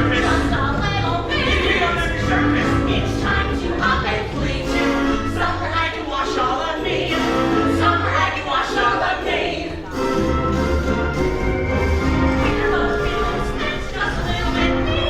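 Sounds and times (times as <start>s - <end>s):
group singing musical song: 0.0s - 15.0s
instrumental accompaniment with bass: 0.0s - 15.0s.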